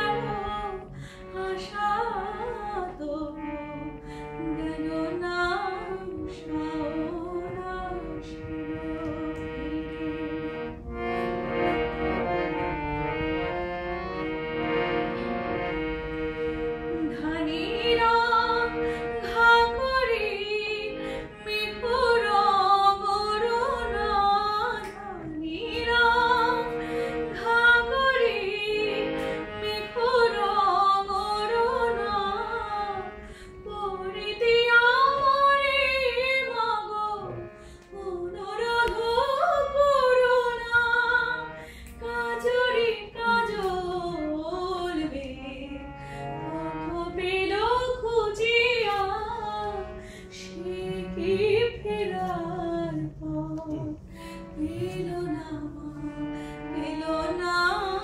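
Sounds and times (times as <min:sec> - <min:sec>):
woman singing: 0:00.0 - 0:03.8, 0:04.4 - 0:10.2, 0:16.9 - 0:37.2, 0:37.9 - 0:58.0
harmonium: 0:00.0 - 0:58.0.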